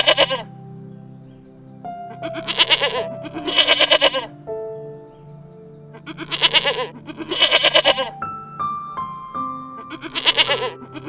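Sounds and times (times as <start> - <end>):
animal calling with a quaver: 0.0 - 8.8, 9.4 - 11.0
background music of held notes: 0.0 - 11.0.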